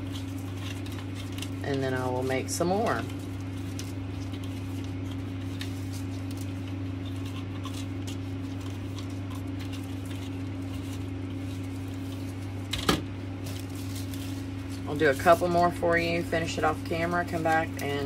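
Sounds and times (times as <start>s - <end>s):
low electrical hum: 0.0s - 18.0s
ribbon rustling when handled: 0.0s - 18.0s.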